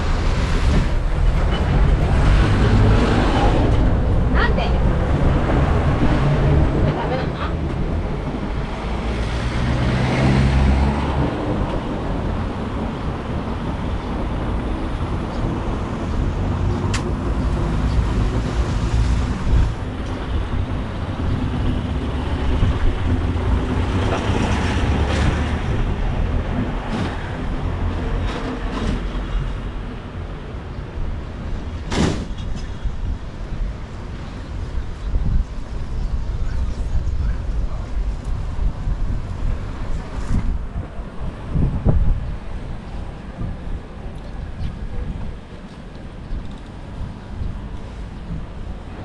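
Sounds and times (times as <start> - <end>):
road traffic rumble: 0.0 - 49.0.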